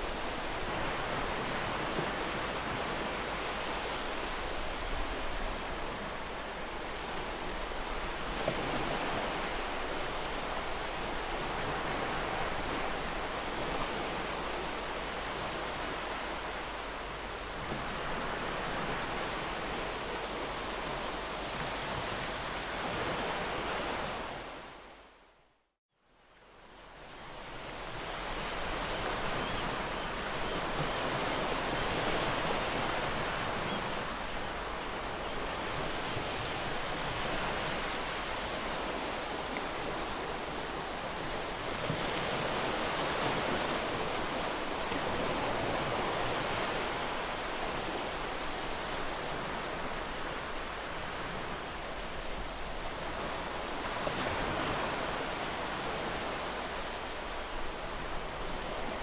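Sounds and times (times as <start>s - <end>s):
ocean surf breaking on shore: 0.0s - 24.9s, 27.0s - 59.0s.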